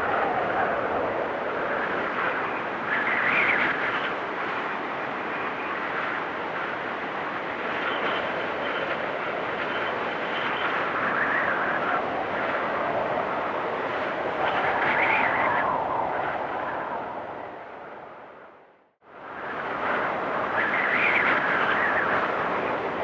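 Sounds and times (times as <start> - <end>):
blizzard wind gusting: 0.0 - 23.0.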